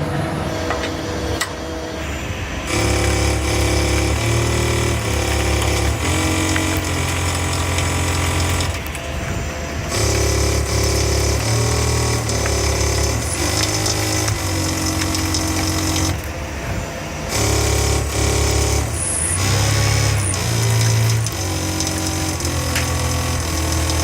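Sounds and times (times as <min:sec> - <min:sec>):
stepper motors buzzing a melody: 0:00.0 - 0:24.0.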